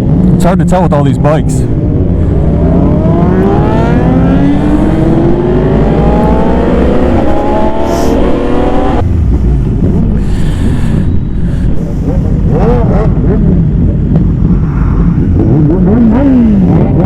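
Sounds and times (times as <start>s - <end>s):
motorcycle engine accelerating: 0.0s - 17.0s
wind rumble: 0.0s - 17.0s.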